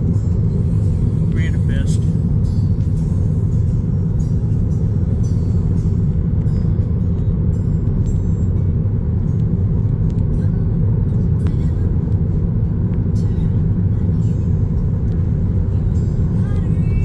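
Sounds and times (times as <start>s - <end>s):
freight train rumbling: 0.0s - 17.0s
tyre and road noise: 0.0s - 17.0s.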